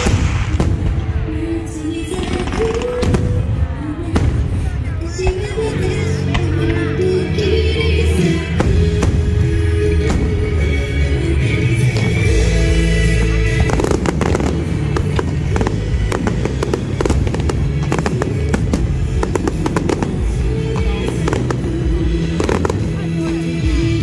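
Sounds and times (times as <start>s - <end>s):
fireworks bursting and crackling: 0.0s - 5.6s, 8.5s - 23.8s
loud music: 0.0s - 24.0s.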